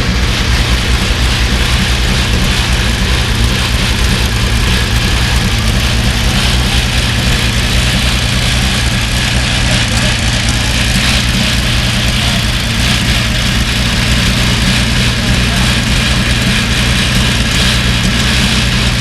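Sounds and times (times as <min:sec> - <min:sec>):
racing engine idling: 0:00.0 - 0:19.0.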